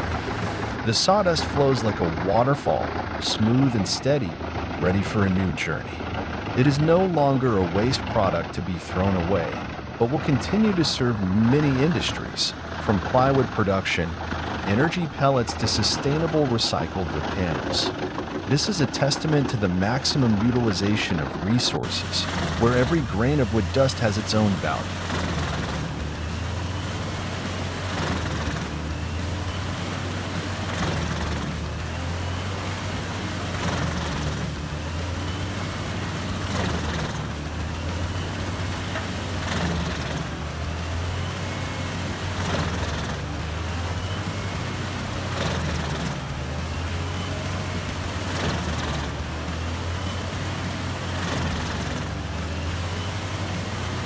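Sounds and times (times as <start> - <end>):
wood crushing machinery grinding: 0.0 - 54.0.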